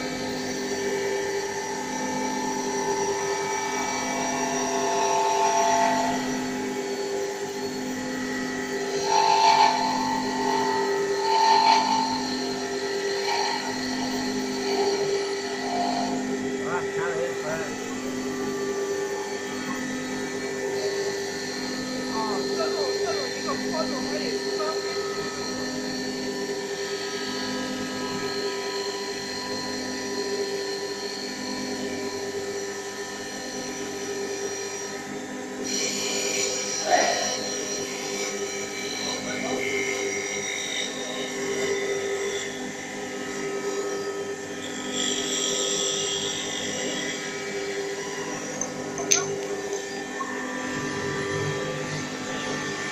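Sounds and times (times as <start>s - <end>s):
lathe whine: 0.0s - 52.9s
wood lathe humming: 0.0s - 52.9s.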